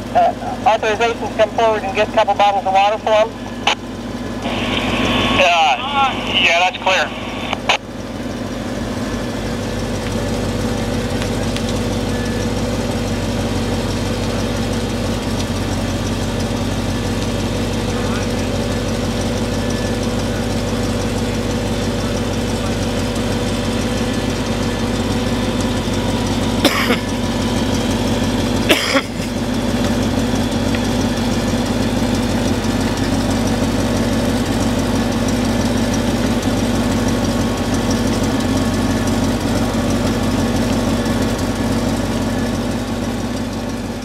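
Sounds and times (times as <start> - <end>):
fire engine pump running: 0.0 - 44.0.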